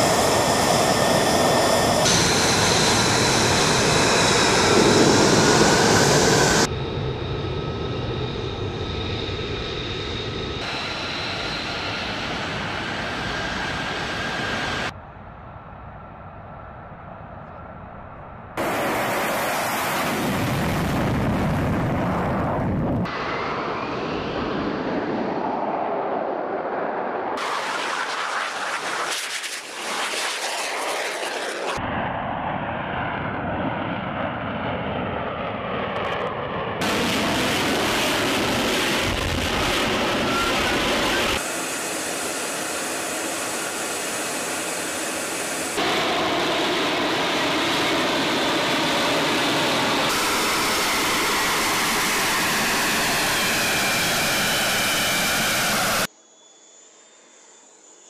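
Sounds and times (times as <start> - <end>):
jet engine roar: 0.0 - 58.0.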